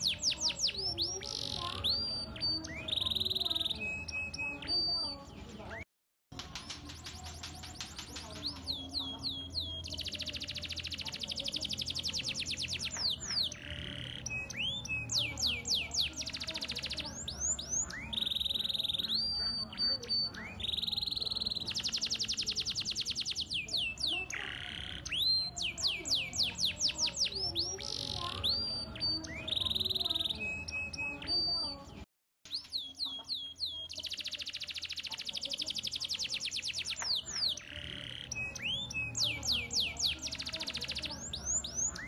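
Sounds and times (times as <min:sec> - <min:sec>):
canary singing trills and whistles: 0:00.0 - 0:42.0.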